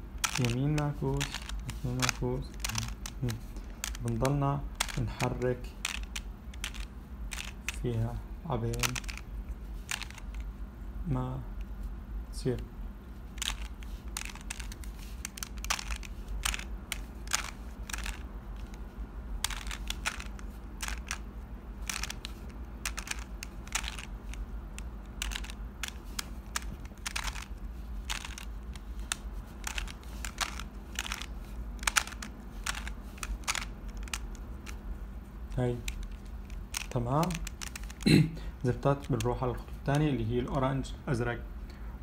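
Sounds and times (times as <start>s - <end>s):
puzzle cube layers clicking: 0.2s - 10.5s, 13.3s - 18.8s, 19.4s - 34.9s, 35.5s - 38.1s, 38.7s - 40.1s.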